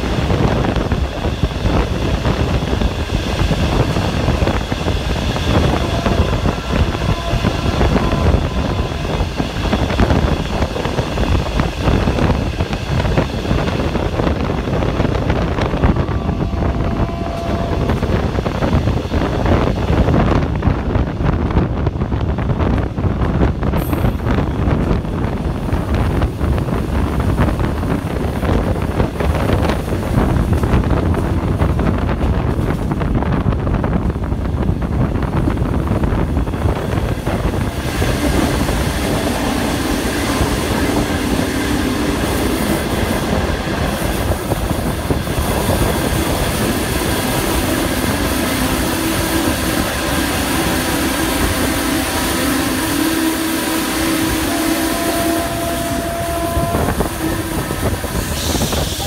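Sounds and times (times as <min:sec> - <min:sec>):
train wheels rumbling on rails: 0:00.0 - 0:59.0
train whine: 0:00.0 - 0:59.0.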